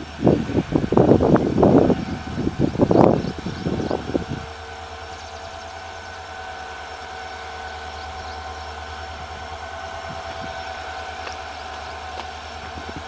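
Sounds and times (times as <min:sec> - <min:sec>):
diesel locomotive engine droning: 0:00.0 - 0:13.0
whining tones: 0:00.0 - 0:13.0.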